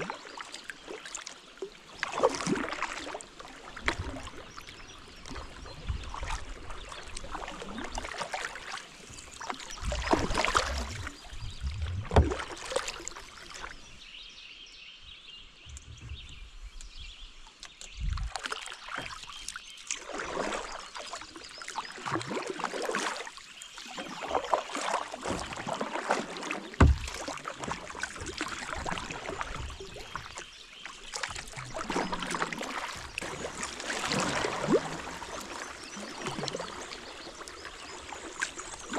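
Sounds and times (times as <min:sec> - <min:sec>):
paddle strokes splashing water: 0:00.0 - 0:14.0, 0:15.7 - 0:38.9
water dripping off paddle: 0:00.2 - 0:13.7, 0:16.8 - 0:38.9.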